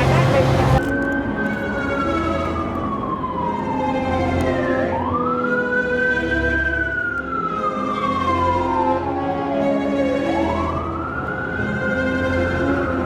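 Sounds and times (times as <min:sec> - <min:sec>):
emergency siren wailing: 0:00.0 - 0:13.0.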